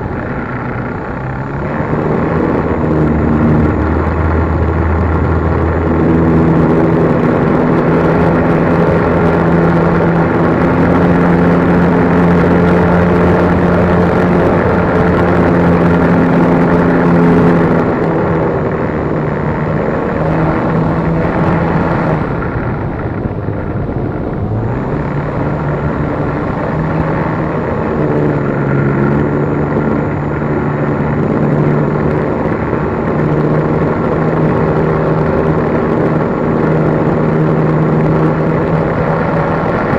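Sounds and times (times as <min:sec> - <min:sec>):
model plane motor and propeller: 0:00.0 - 0:39.9
rushing air: 0:00.0 - 0:39.9.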